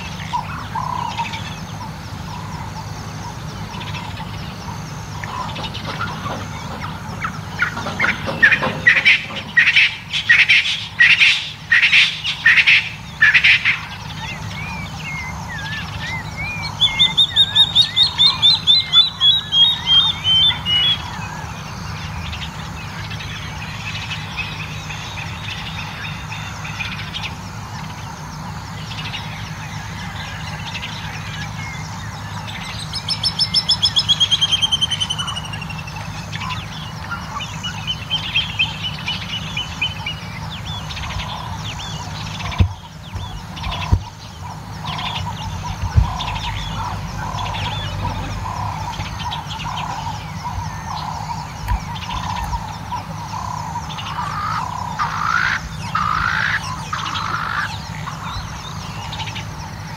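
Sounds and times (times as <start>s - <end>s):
low steady hum: 0.0s - 59.9s
wild birds calling: 0.0s - 59.9s.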